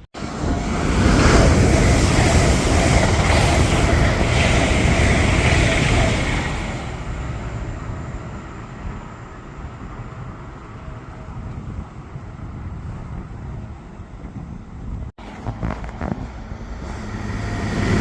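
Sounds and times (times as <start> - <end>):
train passing: 0.0 - 18.0.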